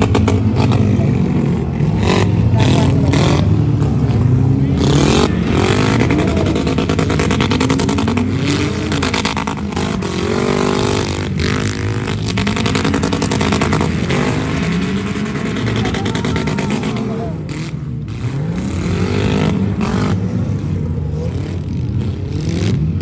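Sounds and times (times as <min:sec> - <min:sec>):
vehicle engines revving: 0:00.0 - 0:23.0.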